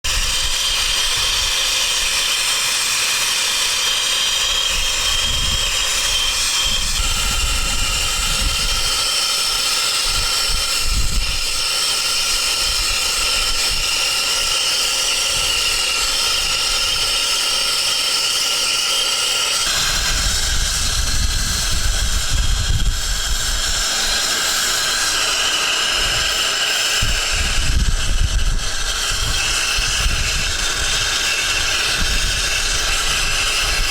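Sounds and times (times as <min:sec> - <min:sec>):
brazing torch flame hissing: 0:00.0 - 0:33.9.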